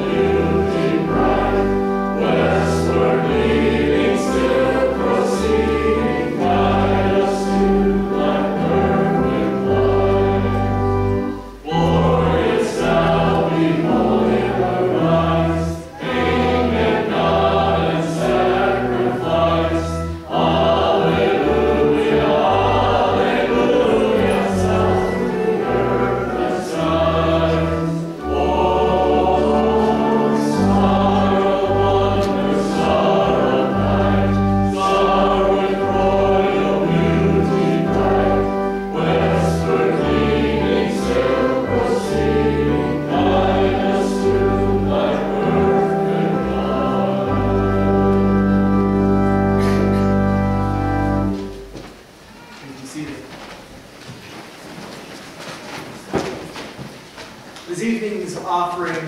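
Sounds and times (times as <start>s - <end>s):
choir singing a hymn: 0.0s - 52.2s
organ accompaniment: 0.0s - 53.1s.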